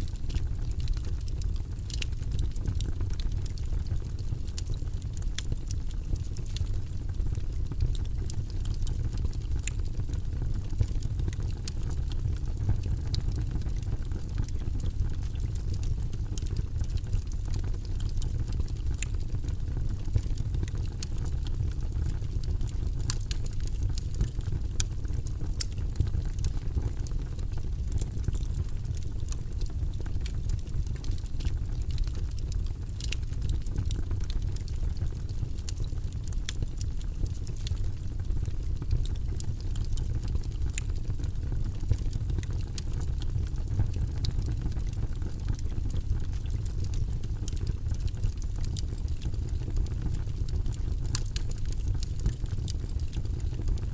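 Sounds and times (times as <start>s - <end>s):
low fire rumble: 0.0s - 53.9s
wood fire crackling and popping: 0.0s - 53.9s.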